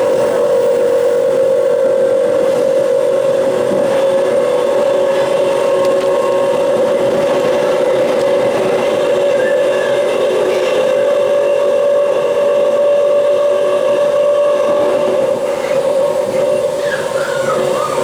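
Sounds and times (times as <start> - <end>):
electric train humming drone: 0.0 - 18.0
train running noise: 0.0 - 18.0.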